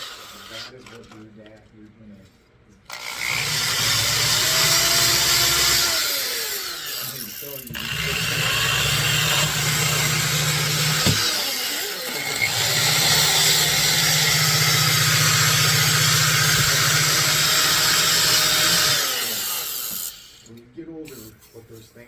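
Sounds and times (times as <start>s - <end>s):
power tool motor running: 0.0s - 0.8s, 2.9s - 20.5s.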